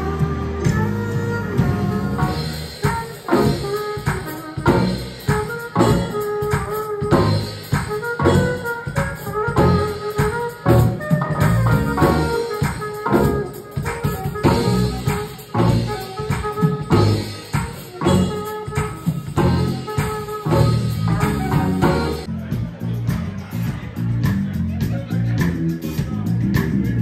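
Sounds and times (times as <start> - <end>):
saxophone: 0.0 - 22.3
electric keyboard: 0.0 - 22.8
drum kit beat: 0.0 - 27.0
electric bass: 0.0 - 27.0.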